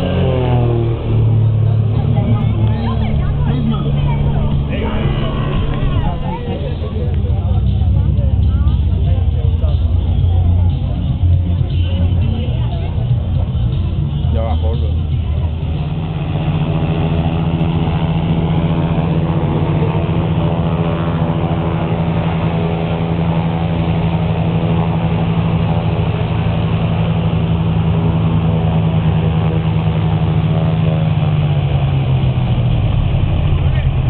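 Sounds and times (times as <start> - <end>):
light aircraft engine and propeller: 0.0 - 34.0.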